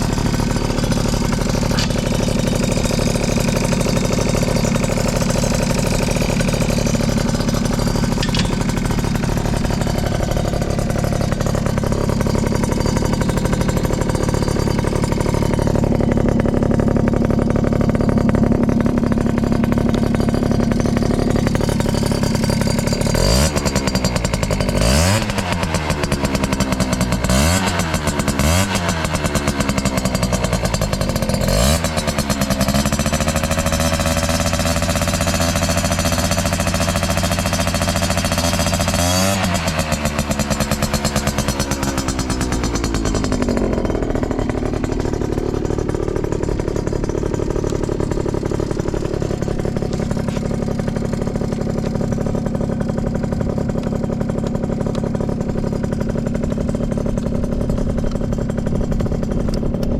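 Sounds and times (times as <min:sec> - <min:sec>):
scooter engine idling and revving: 0:00.0 - 0:59.9.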